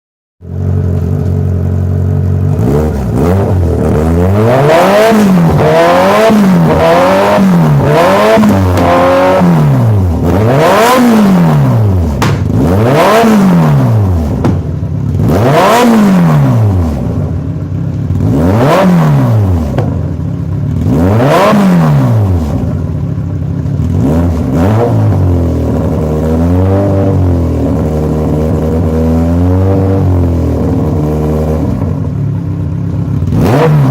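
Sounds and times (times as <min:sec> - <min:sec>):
motorcycle engine idling and revving: 0:00.4 - 0:33.9.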